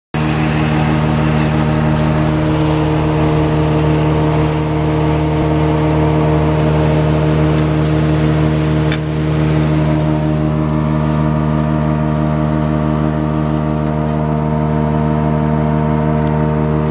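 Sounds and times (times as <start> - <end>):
silage blower droning: 0.1 - 16.9.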